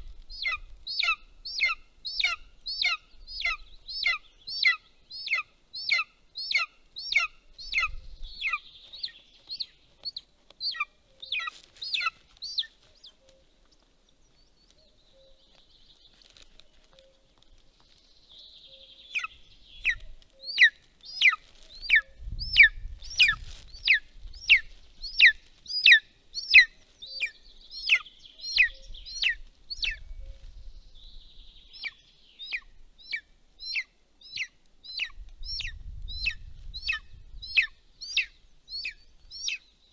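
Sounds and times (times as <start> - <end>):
eagle calling: 0.0 - 13.8, 18.3 - 30.8, 31.6 - 39.8.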